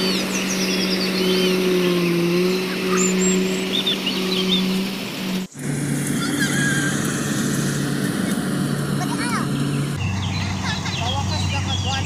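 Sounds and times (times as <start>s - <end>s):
harvester engine humming: 0.0s - 12.0s.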